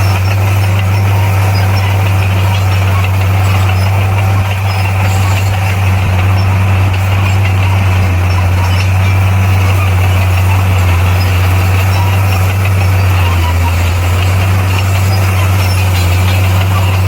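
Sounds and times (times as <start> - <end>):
bulldozer diesel engine humming: 0.0 - 17.0.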